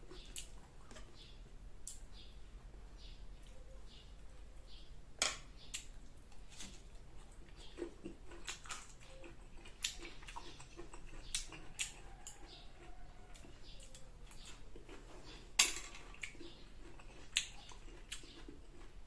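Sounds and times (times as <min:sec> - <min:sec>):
crunchy chewing: 0:00.0 - 0:02.3, 0:05.7 - 0:19.0.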